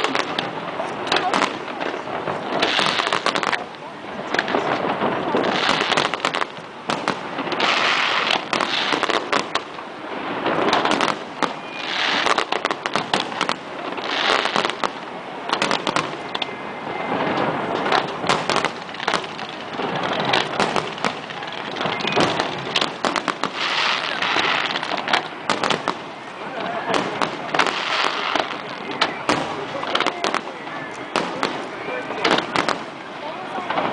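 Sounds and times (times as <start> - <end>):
crackling hiss of fireworks: 0.0 - 33.9
fireworks popping and crackling: 0.0 - 33.9.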